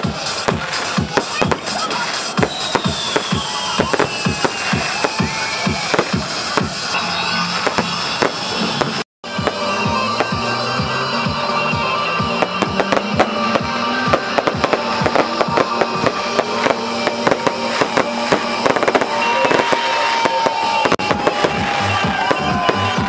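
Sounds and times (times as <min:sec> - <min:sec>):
fireworks popping and crackling: 0:00.0 - 0:10.4, 0:12.4 - 0:23.0
background music: 0:00.0 - 0:23.0.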